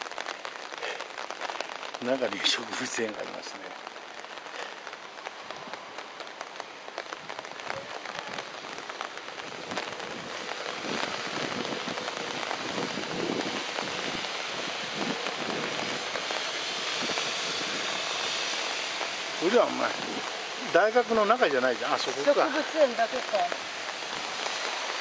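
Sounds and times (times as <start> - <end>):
rain drops pattering: 0.0 - 25.0.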